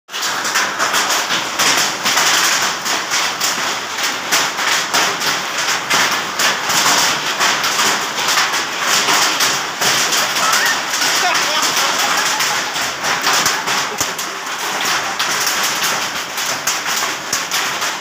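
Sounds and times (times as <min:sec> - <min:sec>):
hail clattering: 0:00.1 - 0:18.0.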